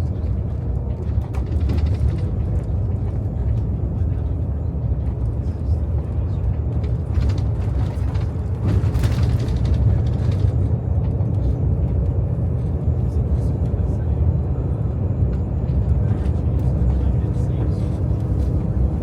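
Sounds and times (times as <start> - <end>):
tyres on road: 0.0 - 19.0
vehicle engine rumble: 0.0 - 19.0.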